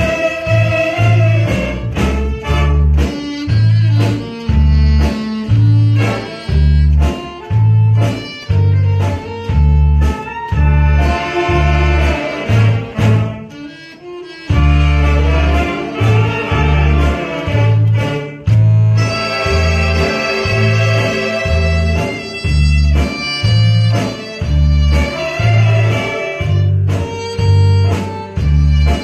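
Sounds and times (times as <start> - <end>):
deep pulsing bass line: 0.0 - 13.5, 14.5 - 29.0
light drum beat: 0.0 - 13.5, 14.5 - 29.0
saxophone ensemble: 0.0 - 29.0.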